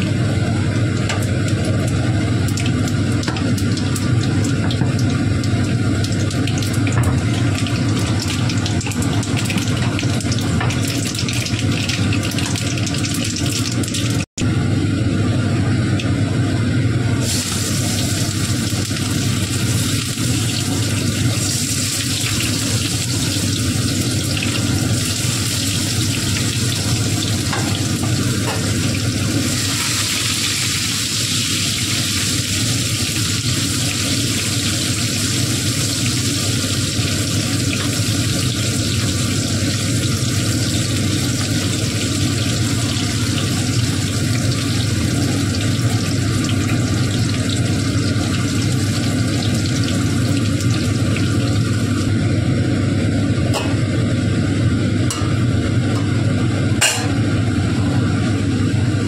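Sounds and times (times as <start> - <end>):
hot oil sizzling in a wok: 0.0 - 14.3, 17.1 - 59.0
steady low hum: 0.0 - 59.0.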